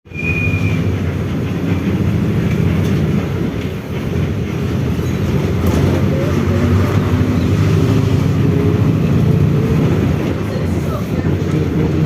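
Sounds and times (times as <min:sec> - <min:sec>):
bus engine drone: 0:00.2 - 0:12.0.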